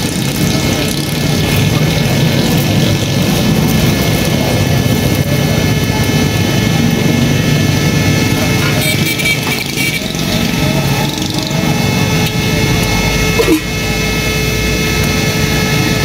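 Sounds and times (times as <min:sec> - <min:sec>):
air blower roaring: 0:00.0 - 0:16.0
motor whine: 0:00.0 - 0:16.0.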